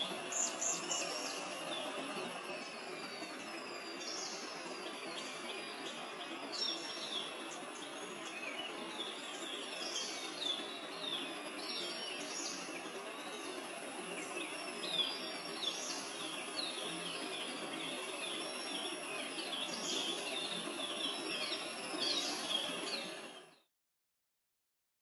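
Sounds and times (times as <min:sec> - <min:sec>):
birds chirping: 0:00.0 - 0:23.7
outdoor background noise: 0:00.0 - 0:23.7.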